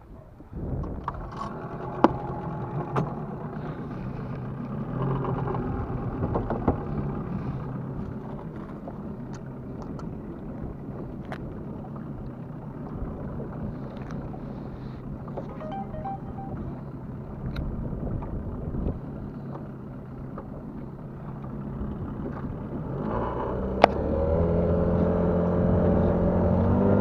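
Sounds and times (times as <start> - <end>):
outboard motor running: 0.8 - 15.6, 17.2 - 27.0.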